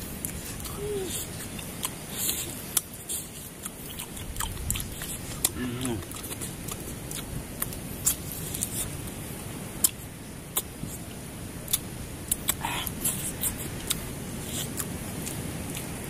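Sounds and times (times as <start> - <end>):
mouth smacks: 0.2 - 8.9, 9.8 - 10.7, 11.7 - 15.9
chewing crunches: 0.2 - 9.0, 9.8 - 11.0, 11.7 - 16.0.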